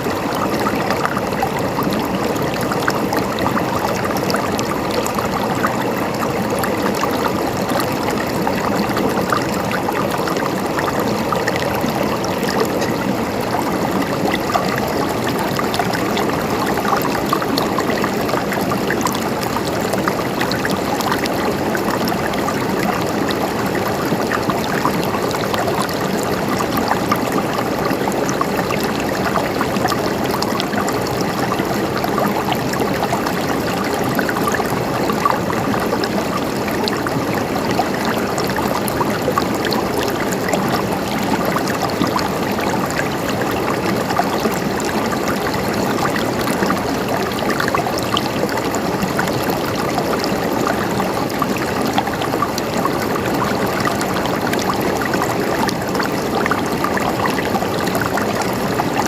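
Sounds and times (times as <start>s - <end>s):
river water rushing over stones: 0.0s - 59.0s
water splashes and trickles: 0.0s - 59.0s.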